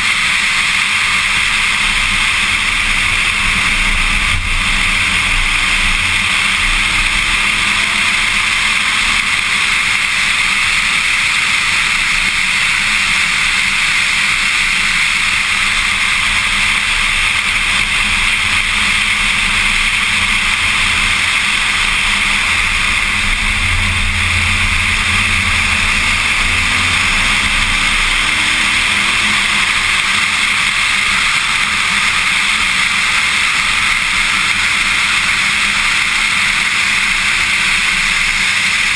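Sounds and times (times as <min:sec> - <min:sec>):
car engine: 0:00.0 - 0:38.9
wind and road noise: 0:00.0 - 0:38.9.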